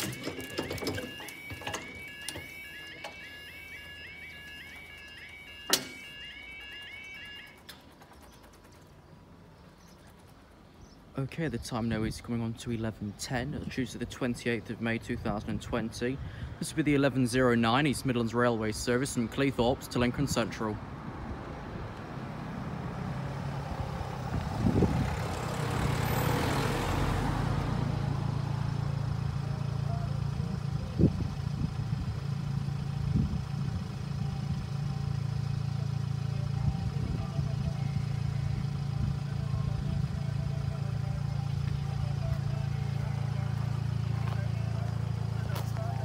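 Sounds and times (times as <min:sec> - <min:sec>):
vehicle engine idling: 0:00.0 - 0:15.3, 0:21.4 - 0:46.0.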